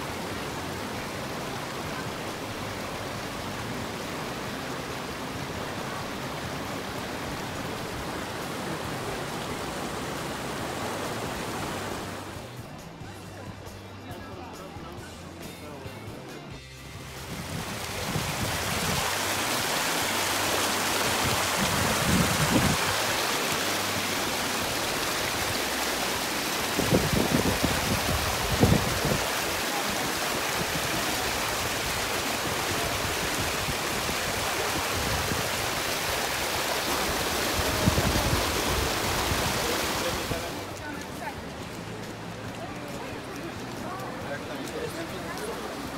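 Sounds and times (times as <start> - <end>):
water rushing along channel: 0.0 - 45.9.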